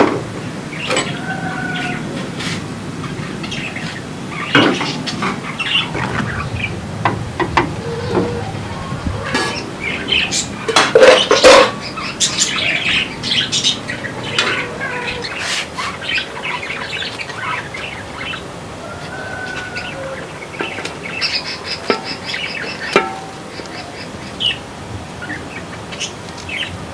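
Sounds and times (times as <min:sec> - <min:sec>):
birds chirping and squawking: 0:00.7 - 0:26.7.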